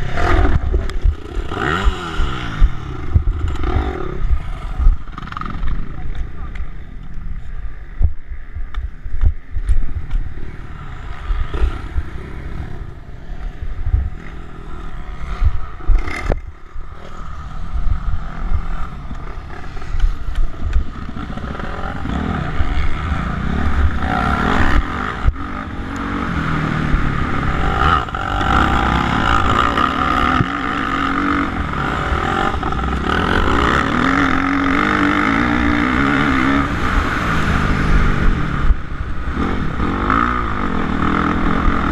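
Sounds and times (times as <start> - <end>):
motorcycle engine revving: 0.0 - 6.6, 9.5 - 41.9
wind rumble on microphone: 0.0 - 41.9.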